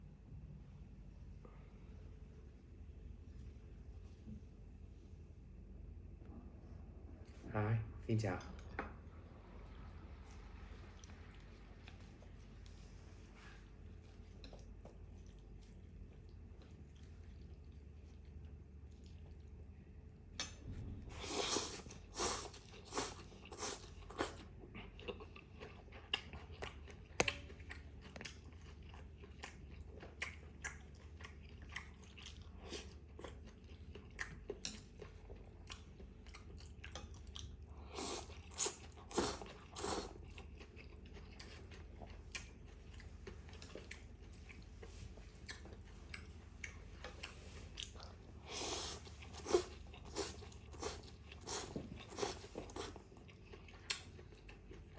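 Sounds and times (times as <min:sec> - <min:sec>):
person chewing food: 0:10.1 - 0:54.9.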